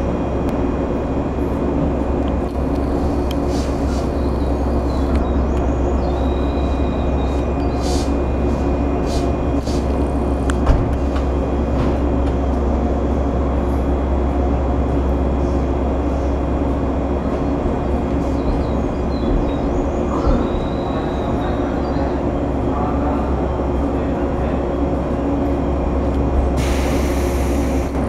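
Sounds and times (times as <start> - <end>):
electric train hum: 0.0 - 28.0.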